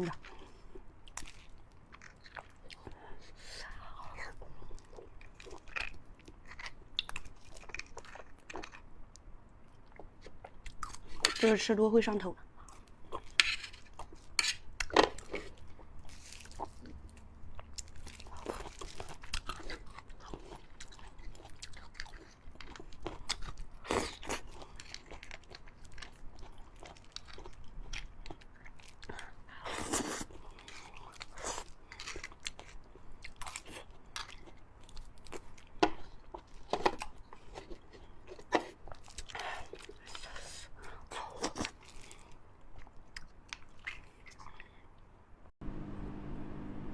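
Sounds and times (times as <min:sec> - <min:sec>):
person chewing bone marrow: 0:00.0 - 0:03.5, 0:04.2 - 0:11.4, 0:12.5 - 0:45.0.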